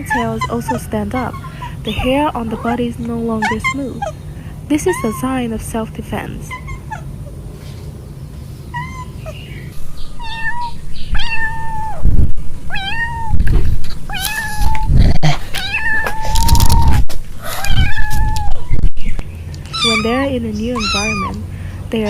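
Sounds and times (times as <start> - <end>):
kittens meowing: 0.0 - 5.5, 6.4 - 7.4, 8.7 - 21.5.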